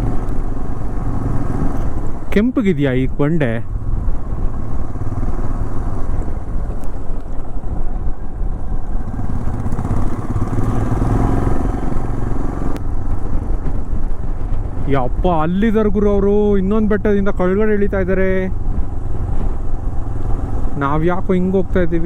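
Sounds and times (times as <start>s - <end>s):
motorcycle engine running: 0.0s - 15.2s, 16.8s - 22.0s.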